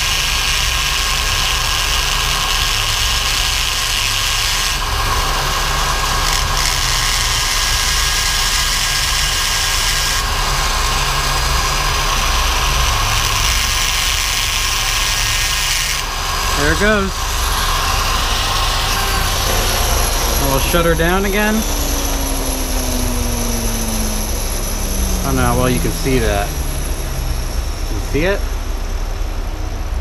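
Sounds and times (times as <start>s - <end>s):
rotary tool grinding metal: 0.0s - 28.4s.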